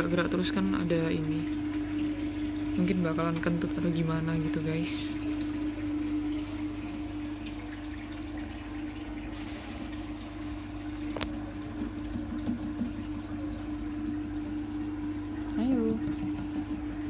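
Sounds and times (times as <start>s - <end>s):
air pump humming: 0.0s - 17.0s
air stone bubbling in water: 0.9s - 17.0s.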